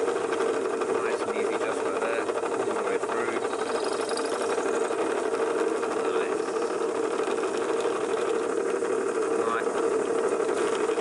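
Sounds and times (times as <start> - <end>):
drill bit boring metal: 0.0 - 11.0
drill press humming: 0.0 - 11.0.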